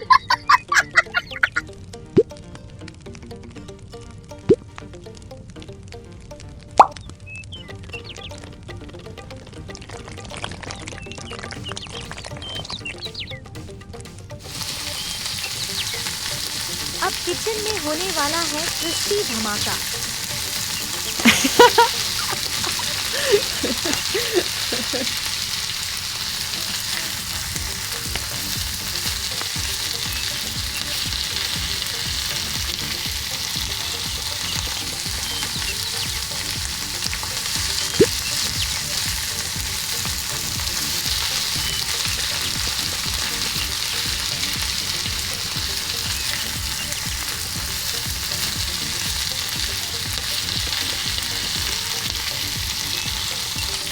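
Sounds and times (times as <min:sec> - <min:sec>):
food deep-frying in oil: 0:09.7 - 0:13.5, 0:14.4 - 0:53.9.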